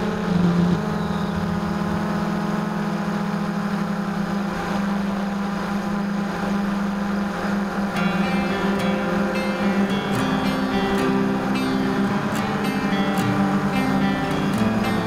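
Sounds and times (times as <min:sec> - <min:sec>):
quadcopter motors droning: 0:00.0 - 0:15.0.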